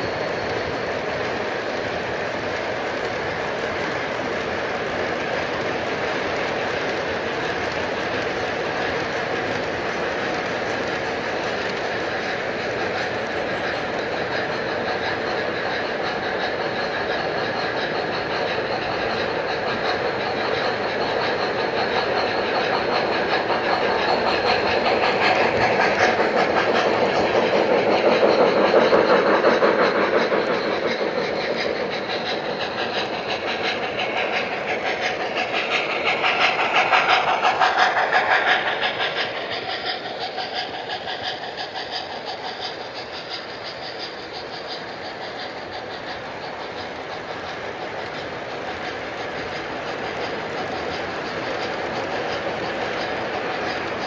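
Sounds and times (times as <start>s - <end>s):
model train wheels clicking: 0.0s - 54.0s.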